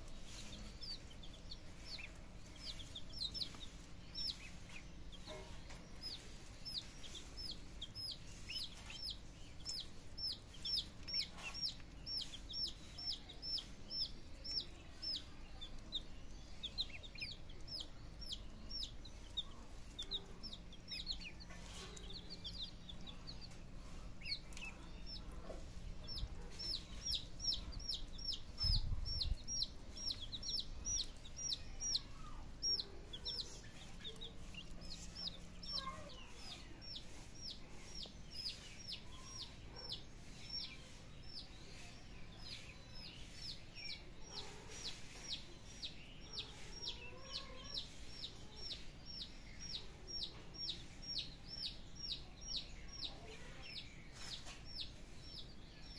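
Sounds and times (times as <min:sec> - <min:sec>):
chicks peeping: 0:00.0 - 0:55.9.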